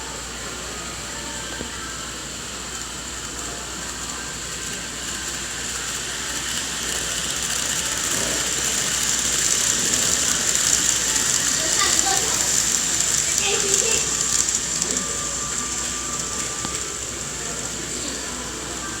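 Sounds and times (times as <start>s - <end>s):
model train motor whine: 0.0s - 19.0s
wheels rumbling on rails: 0.0s - 19.0s.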